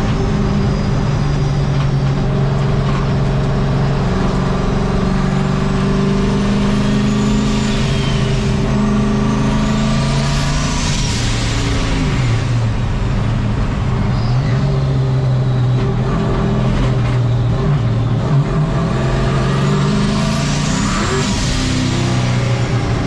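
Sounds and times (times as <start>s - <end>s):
high turbo whine: 0.0s - 23.0s
turbocharged engine revving: 0.0s - 23.0s.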